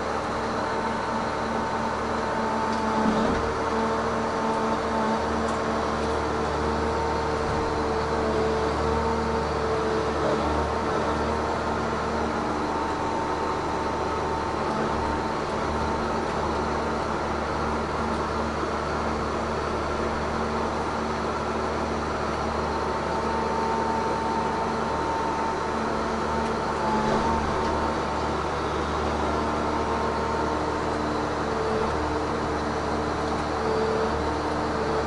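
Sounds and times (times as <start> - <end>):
diesel engine running: 0.0 - 35.0
hydraulic crane whining: 0.0 - 35.0.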